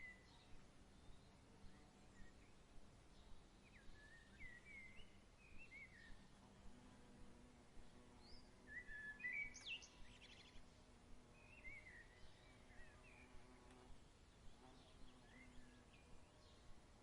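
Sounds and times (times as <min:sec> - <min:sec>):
faint low hum: 0:00.0 - 0:17.0
songbirds chirping: 0:00.0 - 0:17.0.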